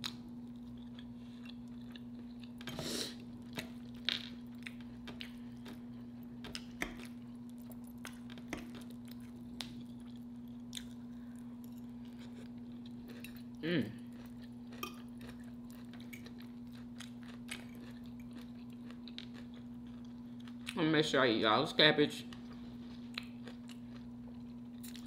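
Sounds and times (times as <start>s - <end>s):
person chewing food: 0.0s - 20.8s, 22.3s - 25.0s.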